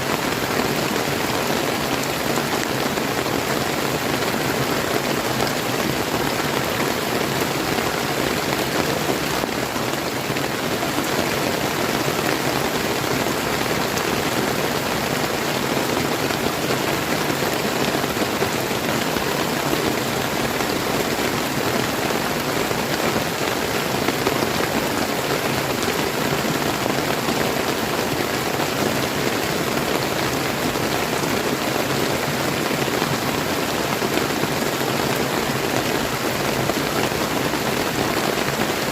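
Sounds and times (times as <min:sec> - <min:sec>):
flowing river: 0:00.0 - 0:38.9
rain pattering: 0:00.0 - 0:38.9.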